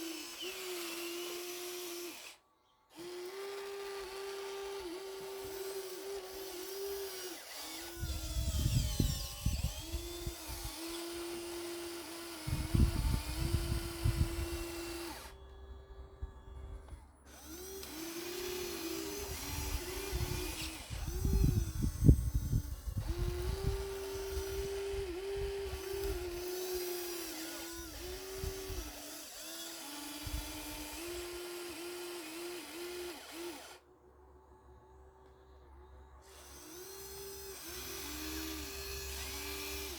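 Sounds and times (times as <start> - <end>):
small electric motors whining: 0.0 - 33.8, 36.2 - 39.9.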